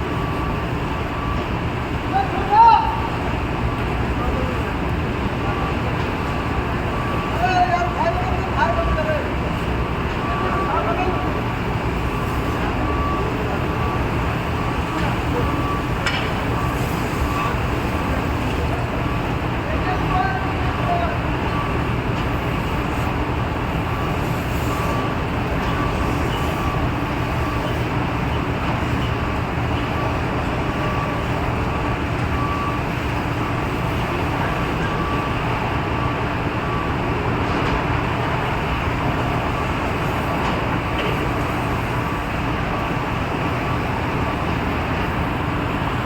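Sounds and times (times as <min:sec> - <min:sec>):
industrial machinery roar: 0:00.0 - 0:46.0.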